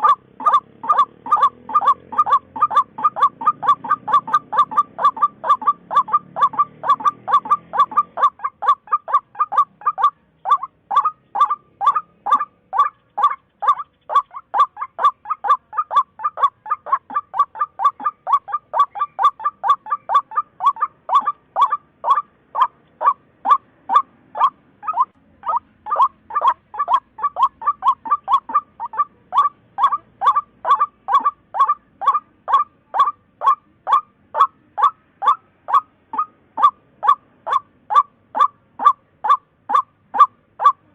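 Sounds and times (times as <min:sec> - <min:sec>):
bird calling sharp notes: 0:00.0 - 0:40.9.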